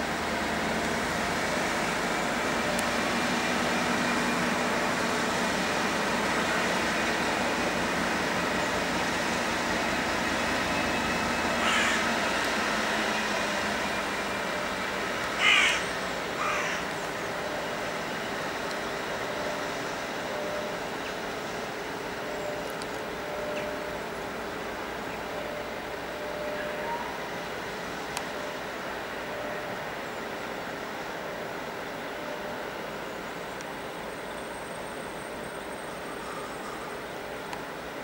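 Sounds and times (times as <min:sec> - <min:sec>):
diesel locomotive engine running: 0:00.0 - 0:38.0.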